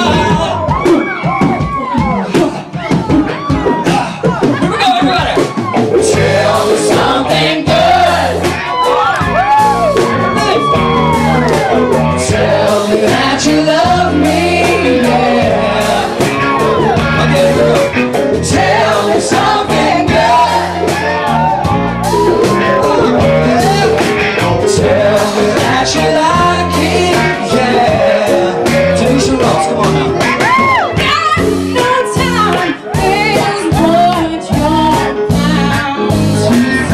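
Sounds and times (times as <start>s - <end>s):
bass notes: 0.0s - 36.9s
drumbeat: 0.0s - 36.9s
lead vocal singing: 5.4s - 36.9s.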